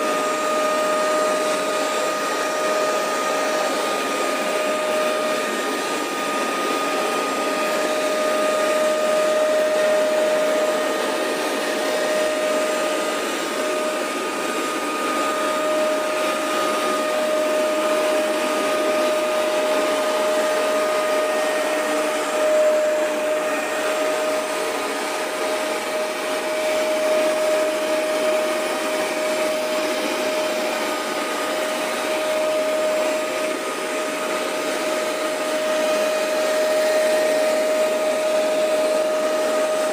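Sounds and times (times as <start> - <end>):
carpet cleaner motor whine: 0.0 - 39.9
suction rush: 0.0 - 39.9.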